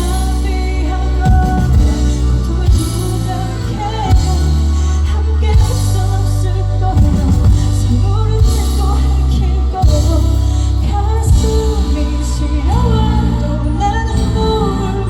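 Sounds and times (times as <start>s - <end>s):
heavy sustained bass: 0.0s - 15.0s
live pop band playing: 0.0s - 15.0s
person singing: 0.0s - 15.0s.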